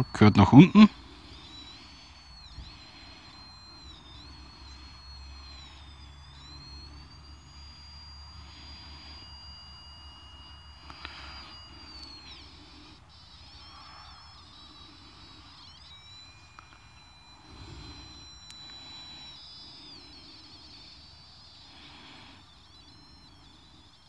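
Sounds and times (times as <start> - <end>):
meter squealing high tone: 0.0 - 24.0.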